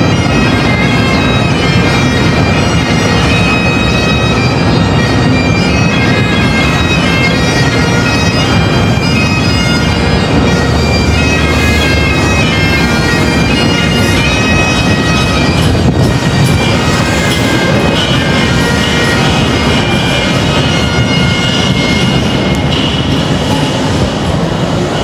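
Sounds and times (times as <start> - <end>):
bagpipes playing a tune: 0.0 - 25.0.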